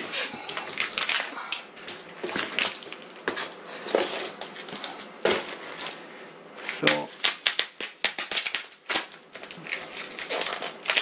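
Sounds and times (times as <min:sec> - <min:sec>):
plastic wrap crinkling: 0:00.0 - 0:06.0, 0:06.6 - 0:11.0.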